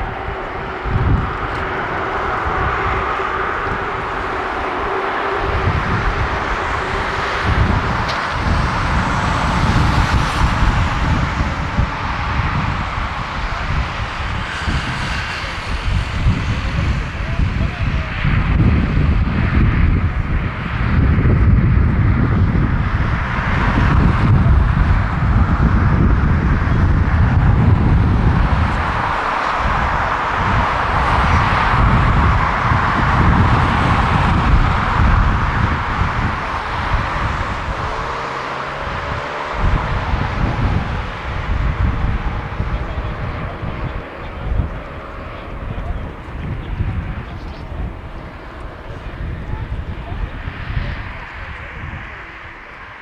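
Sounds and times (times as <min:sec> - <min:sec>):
jet engines rushing: 0:00.0 - 0:53.0
wind buffeting microphone: 0:00.0 - 0:53.0.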